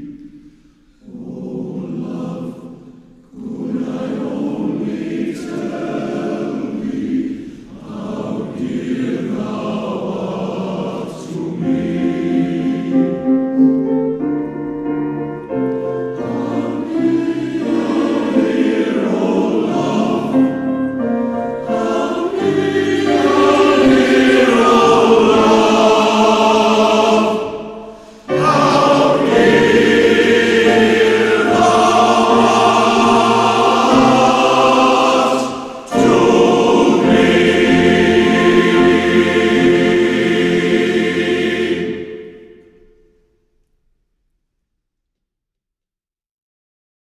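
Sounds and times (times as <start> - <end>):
male voice choir singing: 1.0 - 13.4, 16.2 - 20.8, 21.5 - 42.6.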